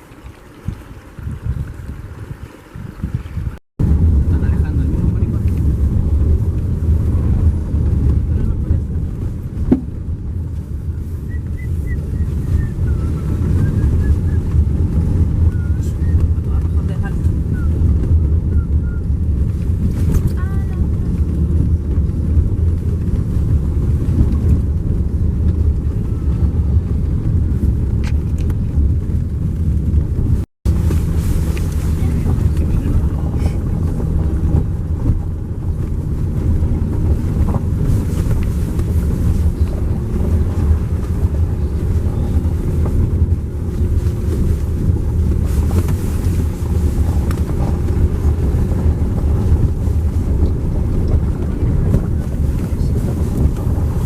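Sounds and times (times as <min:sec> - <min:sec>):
vehicle driving rumble: 0:00.0 - 0:54.0
wind buffeting microphone: 0:00.0 - 0:54.0.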